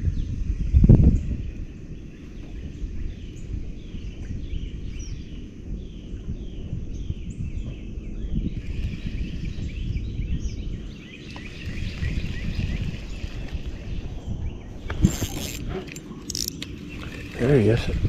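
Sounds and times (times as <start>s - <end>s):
low rumbling noise: 0.0s - 18.0s
small birds chirping: 0.0s - 18.0s.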